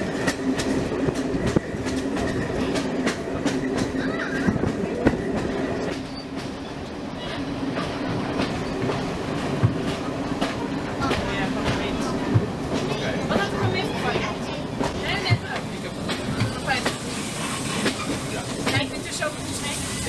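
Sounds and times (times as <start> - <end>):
railway carriage rumble: 0.0 - 20.0
wheels clicking over rail joints: 0.0 - 20.0.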